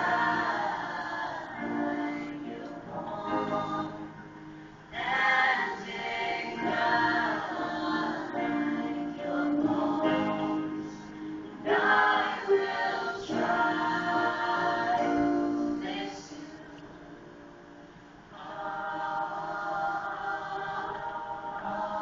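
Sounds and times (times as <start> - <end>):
choir singing over music: 0.0 - 17.5, 18.2 - 22.0.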